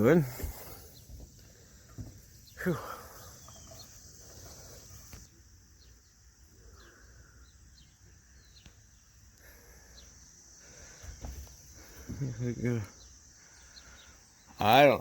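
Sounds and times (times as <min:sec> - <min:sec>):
bird chirps: 0:00.0 - 0:15.0
insect drone: 0:00.0 - 0:15.0.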